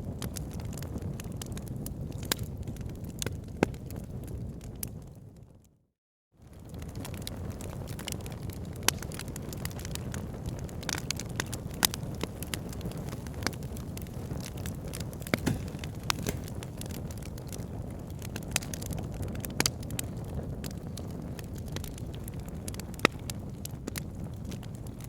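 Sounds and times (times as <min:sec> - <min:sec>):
log fire crackling: 0:00.0 - 0:05.1, 0:06.4 - 0:25.0.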